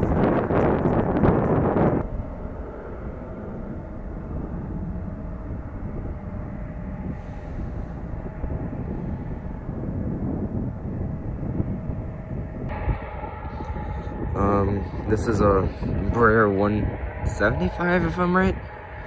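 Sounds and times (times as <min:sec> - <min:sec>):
distant jet engine rumble: 0:00.0 - 0:19.0
faint jet engine whine: 0:00.0 - 0:19.0.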